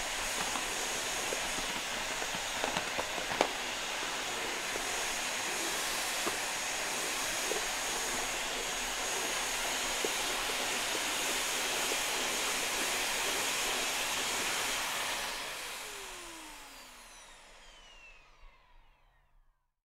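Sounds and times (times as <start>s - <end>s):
vacuum cleaner running: 0.0s - 19.6s.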